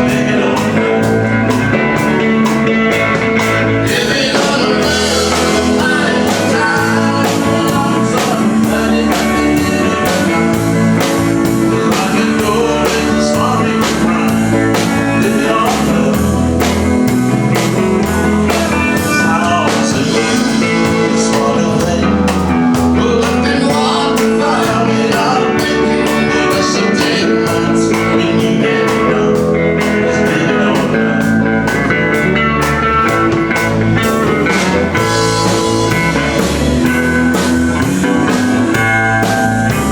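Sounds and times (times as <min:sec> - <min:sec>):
bass notes: 0:00.0 - 0:39.9
country rock band playing: 0:00.0 - 0:39.9
guitar: 0:00.0 - 0:39.9
steady drum beat: 0:00.0 - 0:39.9.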